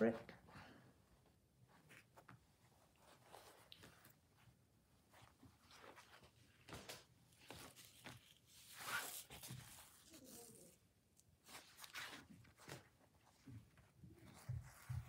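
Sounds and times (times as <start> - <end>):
fabric rustling: 1.0 - 15.0.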